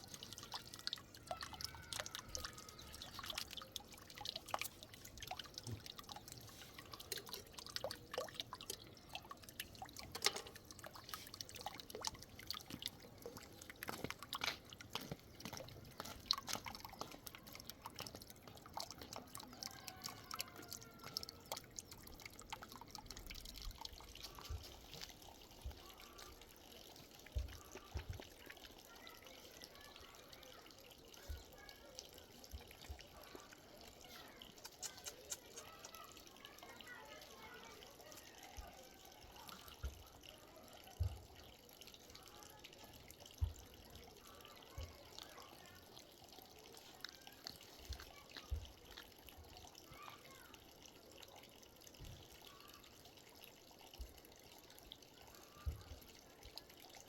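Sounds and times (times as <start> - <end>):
wet ticks and drips: 0.0 - 57.0.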